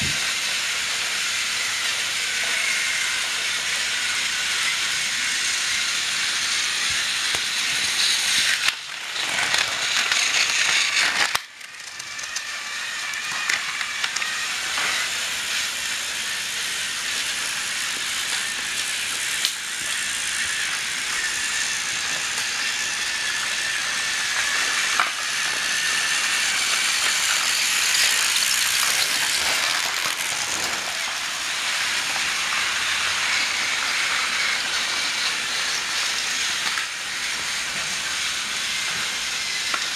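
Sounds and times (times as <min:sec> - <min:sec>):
toy train motors whirring: 0:00.0 - 0:39.9.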